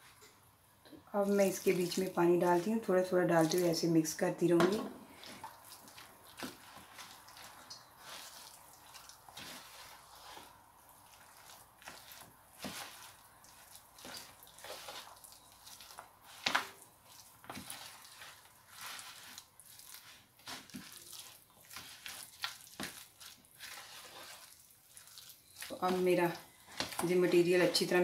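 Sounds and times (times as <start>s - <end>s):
hands squishing wet batter: 1.2s - 28.0s.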